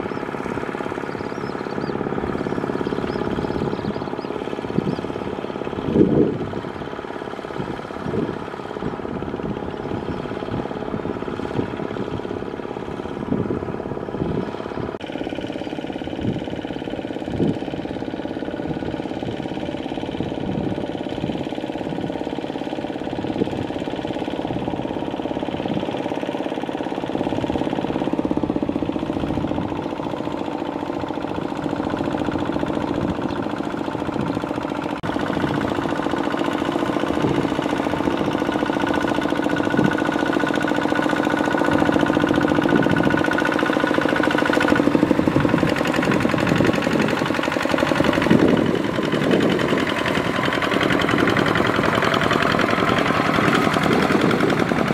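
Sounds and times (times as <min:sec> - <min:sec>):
diesel tractor engine chugging: 0:00.0 - 0:54.9
wheels churning water: 0:00.0 - 0:54.9.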